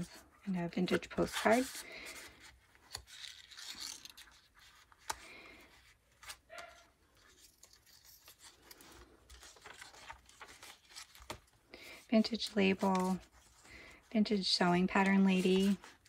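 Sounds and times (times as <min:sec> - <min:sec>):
paper pages rustling: 0:00.8 - 0:16.0.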